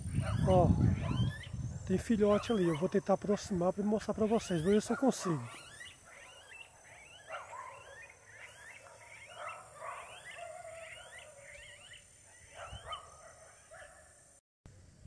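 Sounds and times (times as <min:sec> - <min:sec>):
birds making whiny calls: 0:00.0 - 0:13.8.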